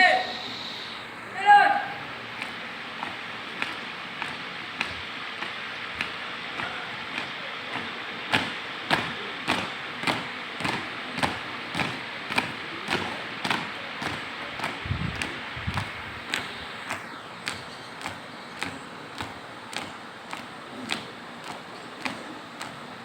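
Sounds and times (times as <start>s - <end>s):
marching footsteps stamping in unison: 2.0s - 23.0s.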